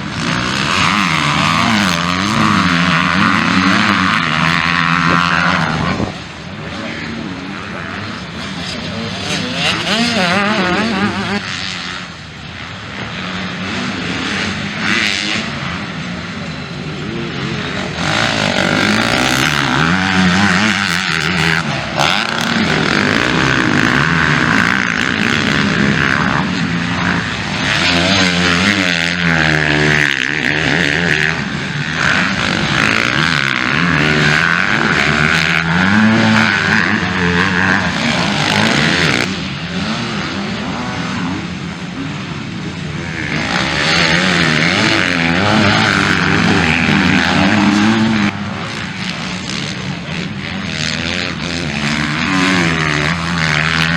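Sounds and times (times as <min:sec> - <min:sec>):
motocross bikes revving: 0:00.0 - 0:53.9.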